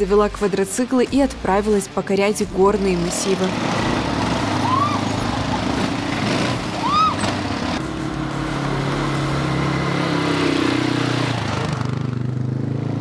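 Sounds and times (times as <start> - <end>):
quad bike engines running: 0.0 - 13.0.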